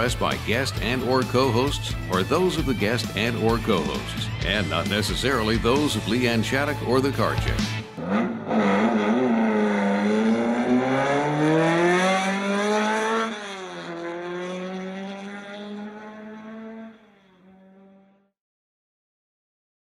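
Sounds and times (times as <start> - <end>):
car engine accelerating: 0.0 - 18.3.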